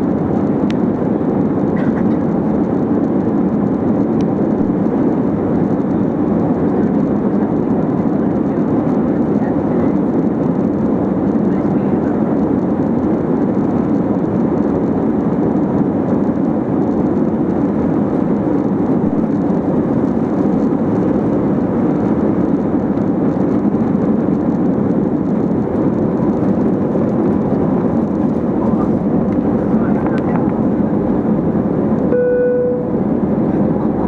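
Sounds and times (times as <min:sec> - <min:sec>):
aircraft cabin engine roar: 0:00.0 - 0:34.0
takeoff roll rumble: 0:00.0 - 0:34.0.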